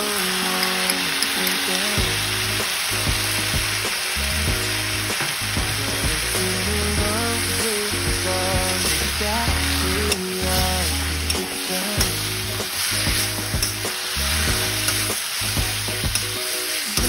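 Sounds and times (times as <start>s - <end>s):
song playing: 0.0s - 17.0s
vegetables sizzling in a wok: 0.0s - 17.0s.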